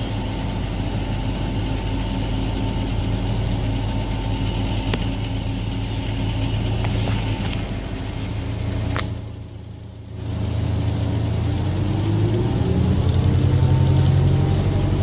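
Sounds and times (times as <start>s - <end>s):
bus clicks and rattles: 0.0s - 15.0s
bus engine humming: 0.0s - 15.0s.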